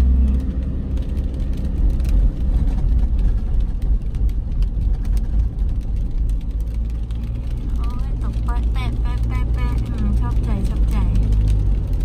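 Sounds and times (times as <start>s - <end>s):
rain tapping on windscreen: 0.0s - 12.0s
road and engine rumble: 0.0s - 12.0s.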